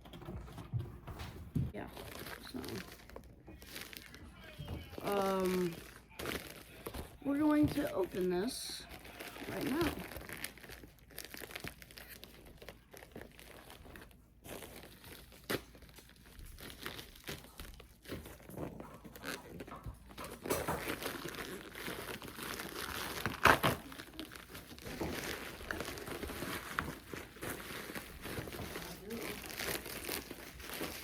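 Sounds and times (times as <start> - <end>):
packaging crinkling and rustling: 1.7 - 31.0.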